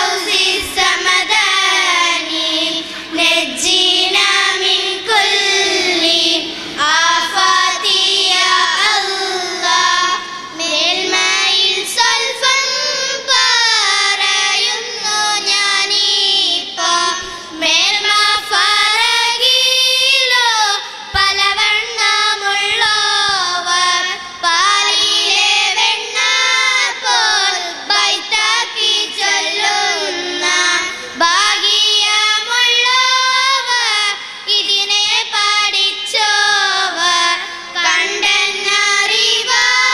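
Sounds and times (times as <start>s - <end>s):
girls singing into microphones: 0.0s - 39.9s.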